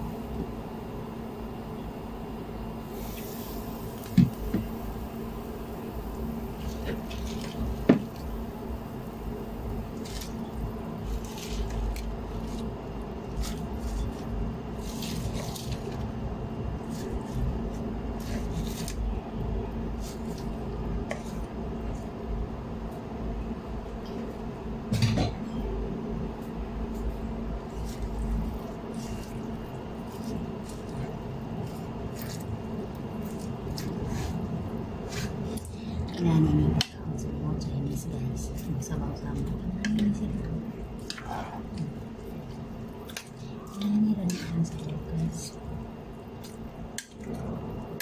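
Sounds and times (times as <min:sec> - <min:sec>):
broth simmering: 0:00.0 - 0:24.9, 0:25.7 - 0:48.0
steady low hum: 0:00.0 - 0:48.0.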